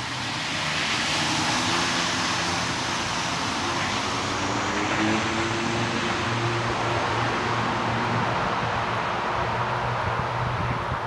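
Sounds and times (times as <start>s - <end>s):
turboprop engines at high power: 0.0s - 11.0s.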